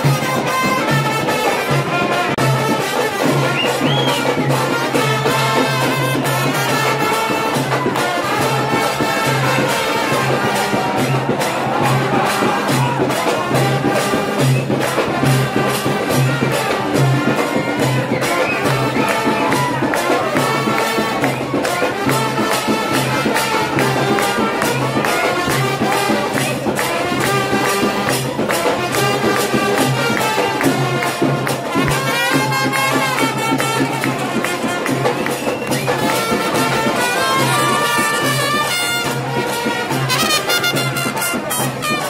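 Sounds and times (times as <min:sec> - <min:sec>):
brass band playing: 0:00.0 - 0:42.0
crowd cheering: 0:00.0 - 0:42.0
drum beat and percussion: 0:00.0 - 0:42.0.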